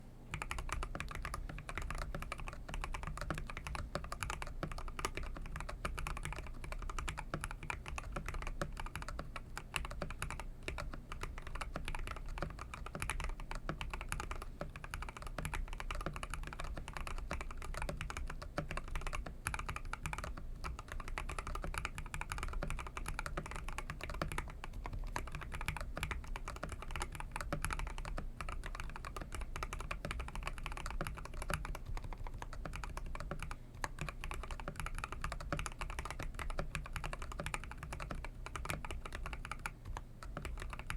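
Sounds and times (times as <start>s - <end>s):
mechanical keyboard typing: 0.3s - 40.9s.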